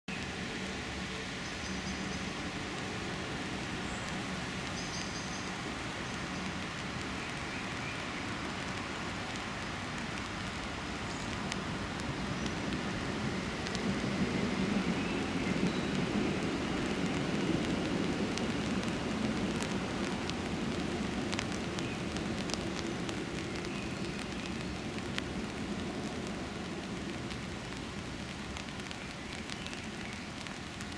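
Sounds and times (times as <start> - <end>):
rain falling: 0.1 - 30.9
raindrops ticking: 0.1 - 30.9.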